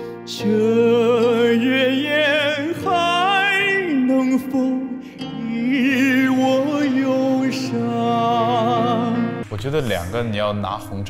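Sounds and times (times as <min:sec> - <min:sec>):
man singing with vibrato: 0:00.0 - 0:09.4
soft instrumental accompaniment: 0:00.0 - 0:11.0.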